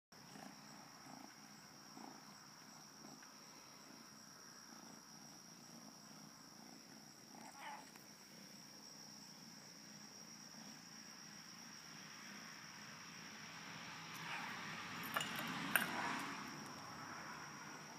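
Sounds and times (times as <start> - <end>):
faint cat purring: 0.1 - 13.2, 14.1 - 17.9.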